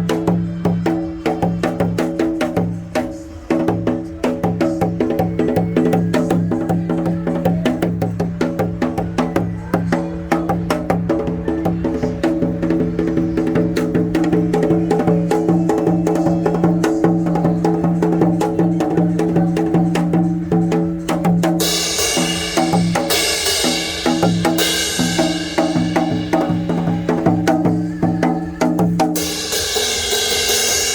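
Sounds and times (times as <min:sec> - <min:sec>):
hourglass drum fast rhythm: 0:00.0 - 0:30.9.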